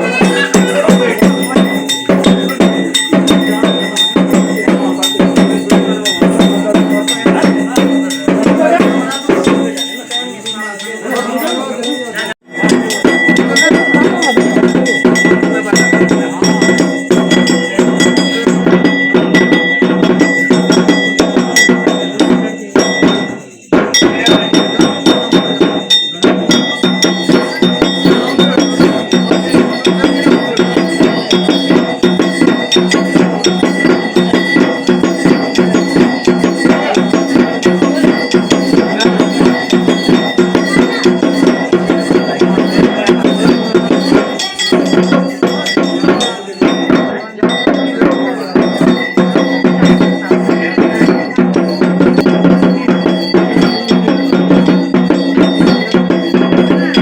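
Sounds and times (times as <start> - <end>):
metal ritual bells ringing rapidly: 0.0 - 57.0
percussion: 0.0 - 57.0.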